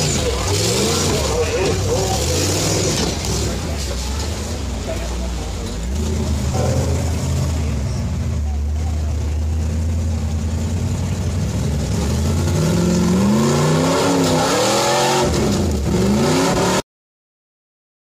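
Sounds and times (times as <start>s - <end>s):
vehicle engine revving under load: 0.0s - 8.6s, 9.3s - 16.8s.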